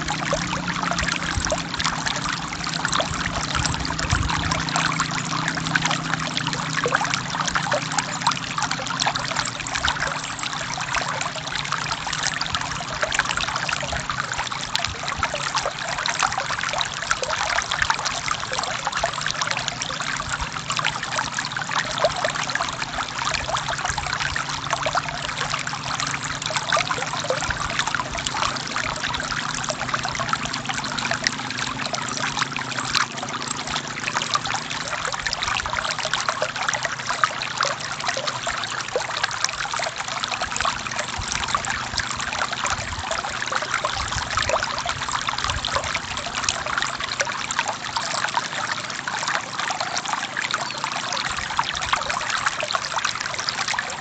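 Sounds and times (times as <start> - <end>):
stream flowing and trickling: 0.0 - 54.0.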